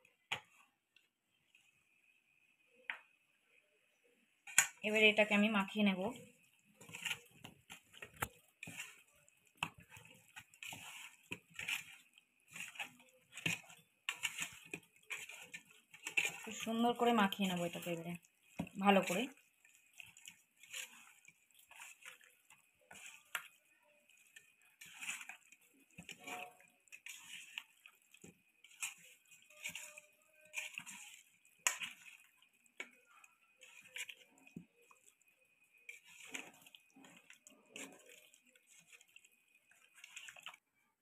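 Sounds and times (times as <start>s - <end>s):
wet squelching of kneading meat: 4.5s - 41.0s.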